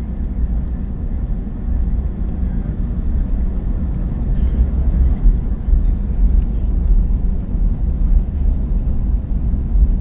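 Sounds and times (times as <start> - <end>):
airplane cabin rumble while taxiing: 0.0 - 10.0.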